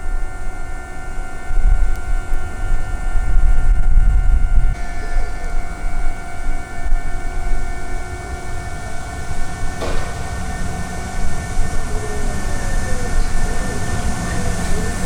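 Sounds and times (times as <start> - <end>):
electric train rumbling: 0.0 - 15.0
train whining tones: 0.0 - 15.0.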